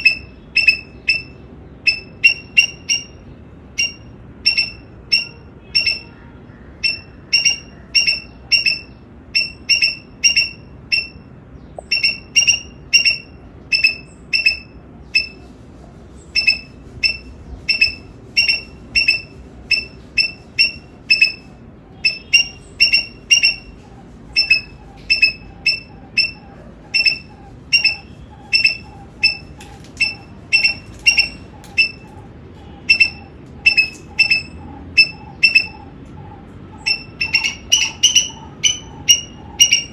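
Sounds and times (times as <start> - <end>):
squirrel chirping alarm calls: 0.0 - 15.4, 16.2 - 39.9
fainter lower-pitched calls: 0.0 - 15.6, 16.3 - 39.9.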